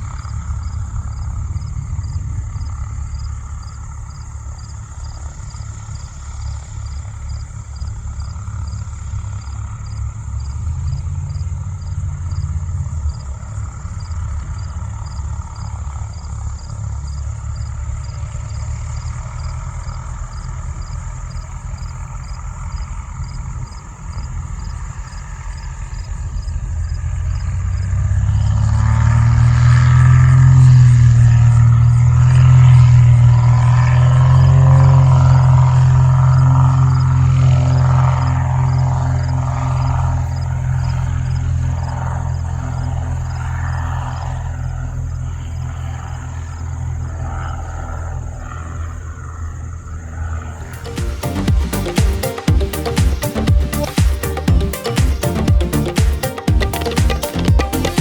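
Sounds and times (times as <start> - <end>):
propeller plane passing: 0.0 - 58.0.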